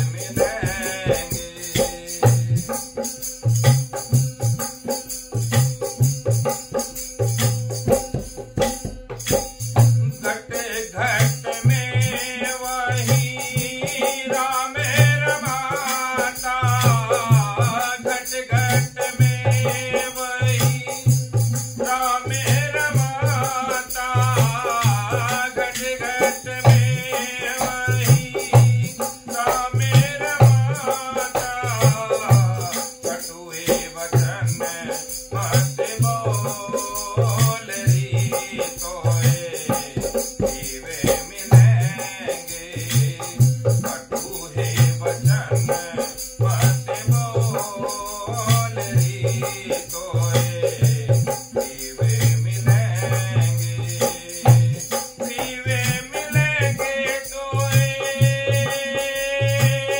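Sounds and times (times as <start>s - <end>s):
man singing: 0.0s - 5.0s, 7.7s - 59.9s.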